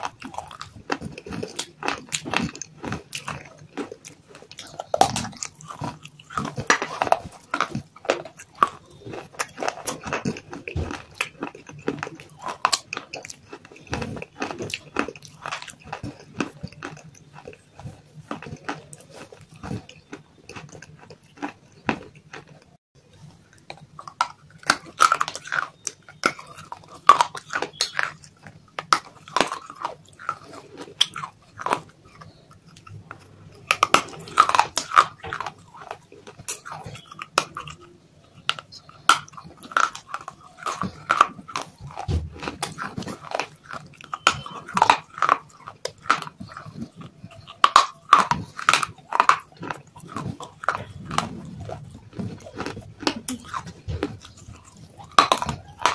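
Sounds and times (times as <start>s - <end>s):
crunching and chewing clay: 0.0s - 55.9s.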